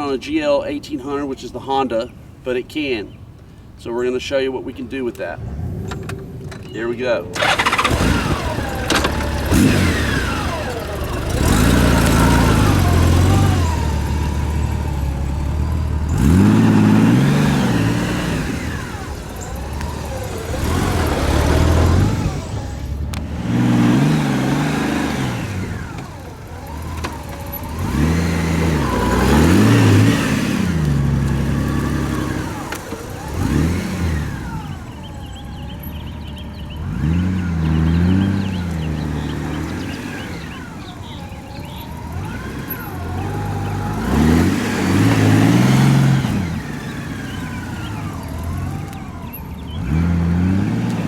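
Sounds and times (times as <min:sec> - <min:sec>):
motorcycle engine at low speed: 0:05.4 - 0:51.0.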